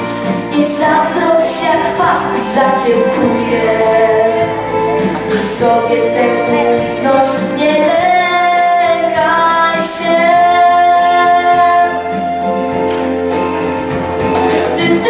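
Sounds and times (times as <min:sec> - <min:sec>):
backing music: 0:00.0 - 0:15.0
girl singing into a microphone: 0:00.2 - 0:13.2, 0:14.3 - 0:15.0.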